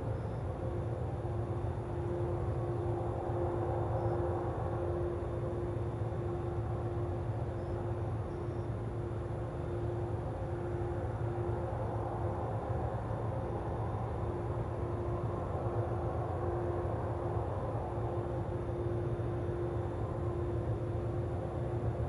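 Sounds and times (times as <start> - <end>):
mid-pitched hum: 0.0 - 22.0.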